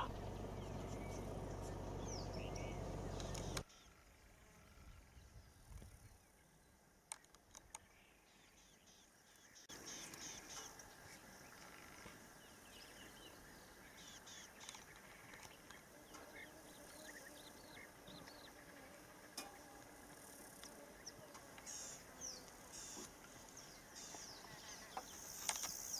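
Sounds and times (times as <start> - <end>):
small birds chirping: 0.0 - 4.0, 4.8 - 19.0, 20.3 - 25.9.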